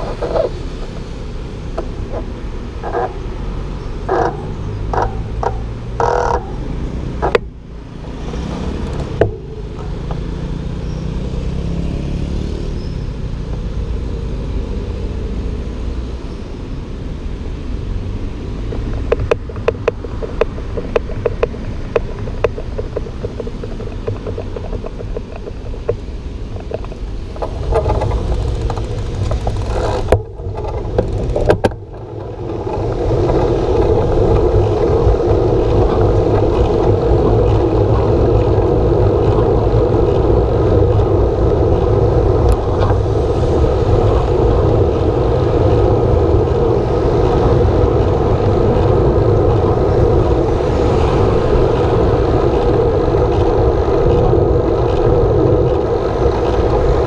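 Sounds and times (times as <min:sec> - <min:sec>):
passing road traffic: 0:00.0 - 0:57.0
wind noise on microphone: 0:00.0 - 0:57.0.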